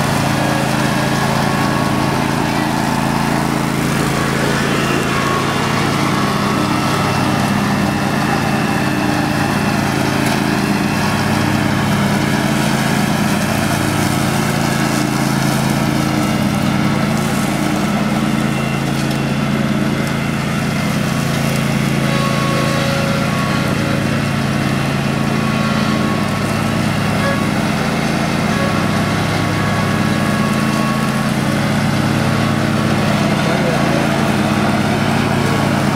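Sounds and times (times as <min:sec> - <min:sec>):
lawn tractor engine running: 0:00.0 - 0:35.9.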